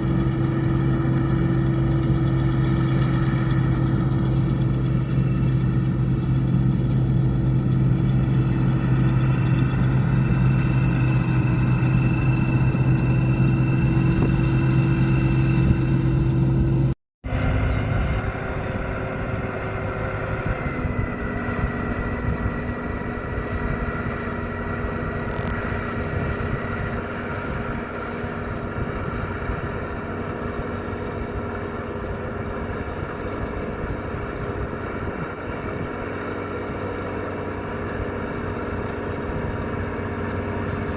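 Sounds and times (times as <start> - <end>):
combine harvester engine humming: 0.0 - 40.9.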